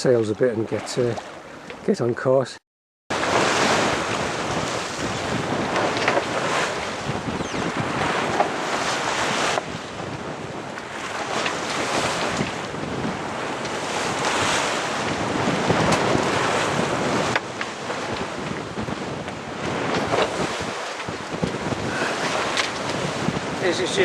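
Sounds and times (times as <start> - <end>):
sea rushing along hull: 0.0 - 2.4, 3.1 - 24.0
wind buffeting microphone: 3.1 - 24.0.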